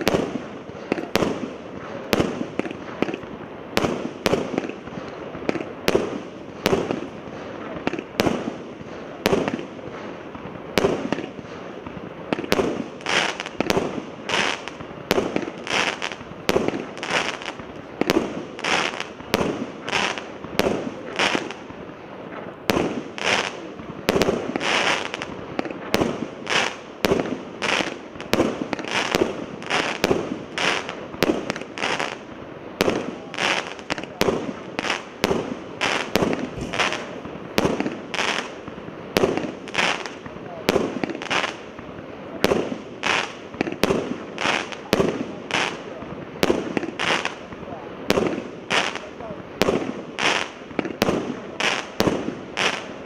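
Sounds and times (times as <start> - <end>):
fireworks sharp reports: 0.0 - 53.0.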